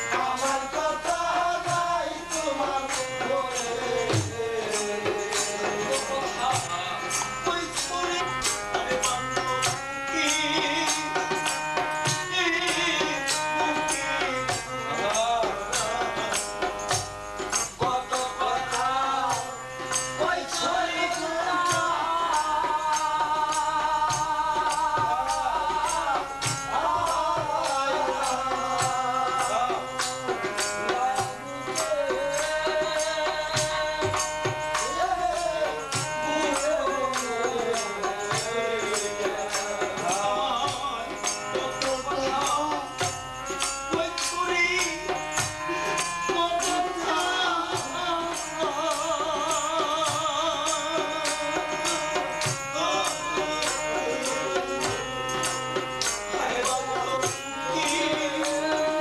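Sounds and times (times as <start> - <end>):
jingling hand percussion: 0.0 - 59.0
man singing: 0.0 - 59.0.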